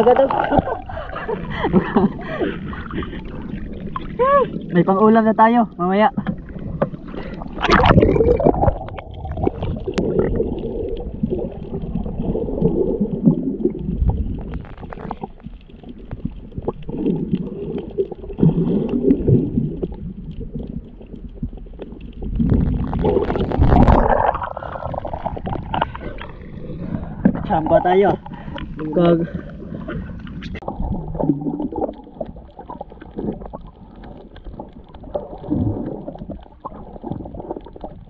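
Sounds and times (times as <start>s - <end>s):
muffled underwater sloshing: 0.0s - 38.0s
water splashing: 0.0s - 38.0s.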